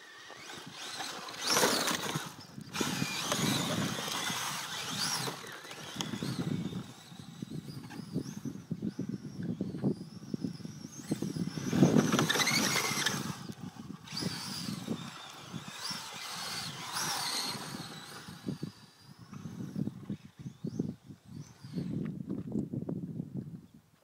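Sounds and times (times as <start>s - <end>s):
electric motor whining: 0.0s - 22.2s
tyres scrabbling on dirt: 0.1s - 8.4s, 9.0s - 20.2s.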